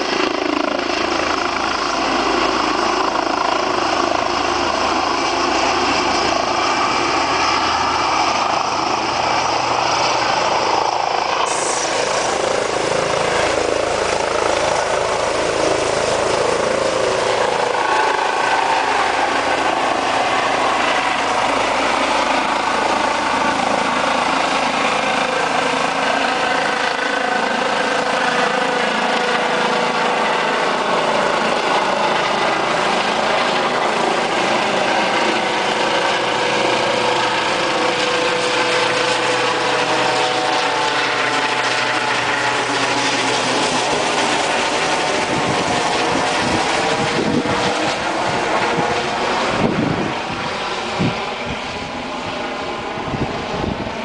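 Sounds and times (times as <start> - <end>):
helicopter rotors and turbines: 0.0 - 54.0.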